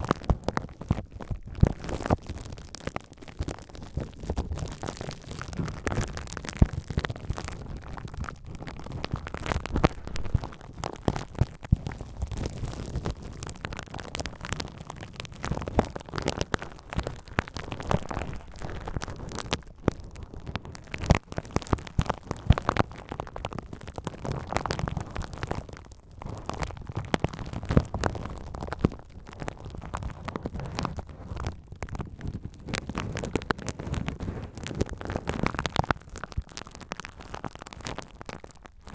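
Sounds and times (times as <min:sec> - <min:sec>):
bubble wrap crinkling and popping: 0:00.0 - 0:38.9.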